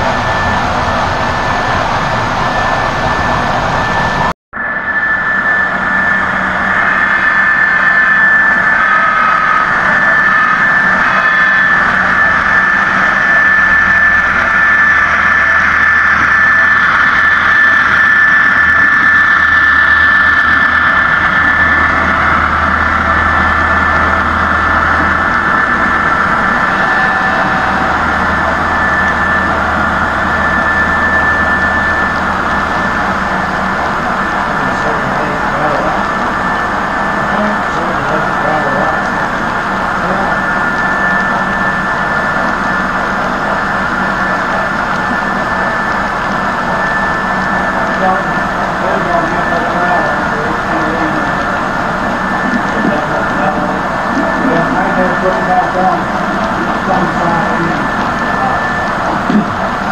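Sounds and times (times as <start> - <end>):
high steady whine: 0.0 - 59.9
low hum: 0.0 - 59.9.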